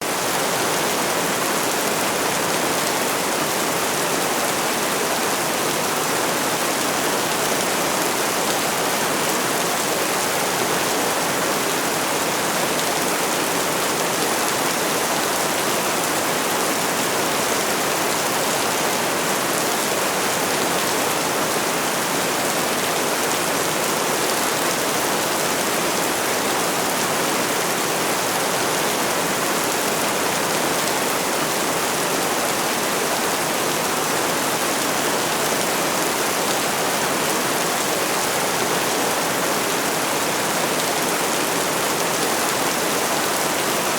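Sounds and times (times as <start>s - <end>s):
heavy rain on a roof: 0.0s - 43.9s.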